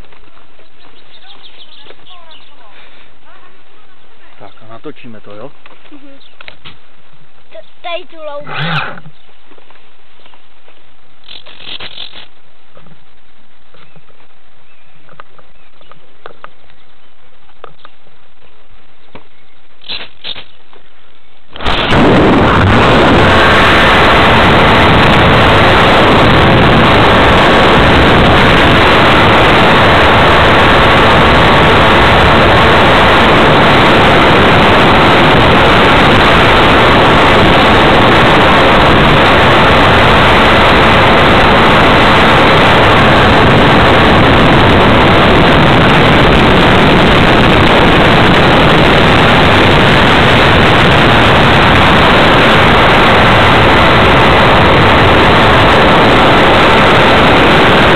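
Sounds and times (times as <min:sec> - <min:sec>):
propeller and wind rush: 0:00.0 - 0:57.9.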